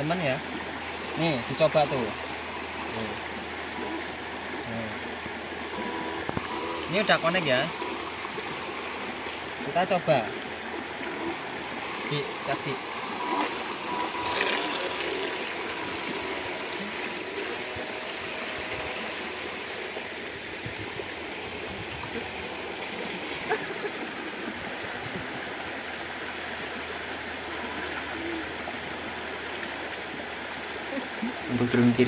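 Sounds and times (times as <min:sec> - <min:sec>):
river water rushing over rapids: 0:00.0 - 0:32.0.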